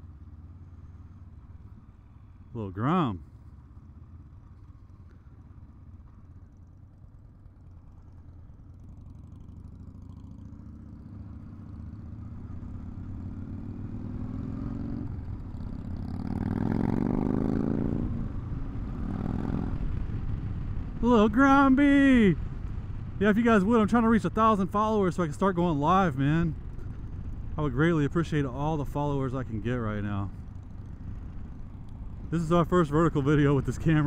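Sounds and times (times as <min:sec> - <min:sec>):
motorcycle engine accelerating: 0:03.5 - 0:34.0.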